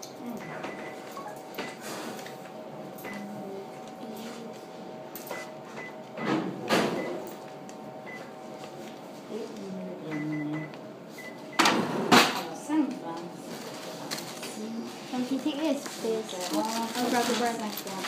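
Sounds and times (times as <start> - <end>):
steady hum: 0.0 - 17.6.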